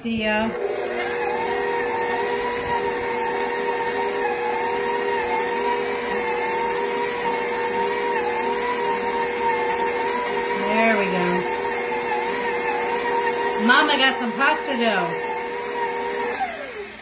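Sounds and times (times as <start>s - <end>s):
stand mixer motor hum: 0.0s - 17.0s.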